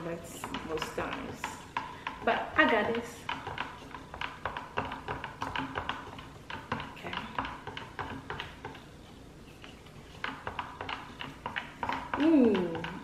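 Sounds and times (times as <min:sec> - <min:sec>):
stick scraping plastic cup: 0:00.4 - 0:13.0.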